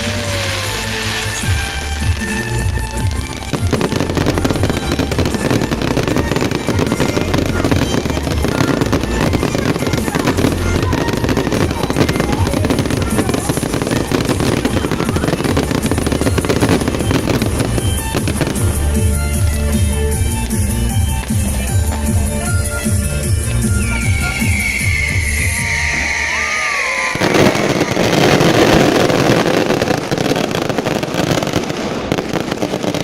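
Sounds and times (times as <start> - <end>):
background music: 0.0 - 33.0
fireworks crackling bangs: 0.0 - 33.0.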